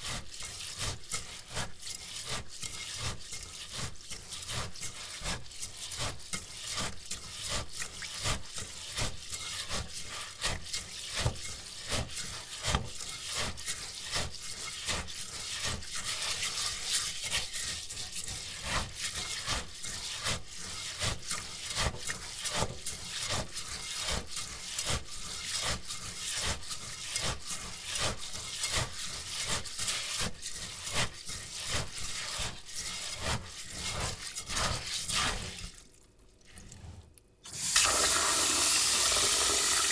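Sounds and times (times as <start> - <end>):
rice grains scrubbed by hand: 0.0 - 35.9, 36.6 - 39.9.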